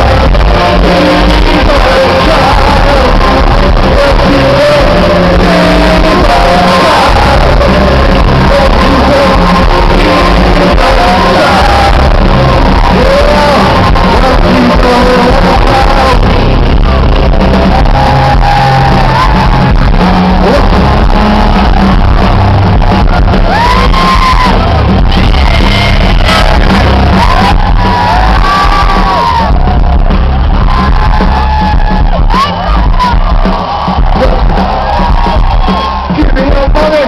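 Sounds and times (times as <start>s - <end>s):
live rock band playing: 0.0s - 37.0s
shouted vocals: 0.0s - 37.0s.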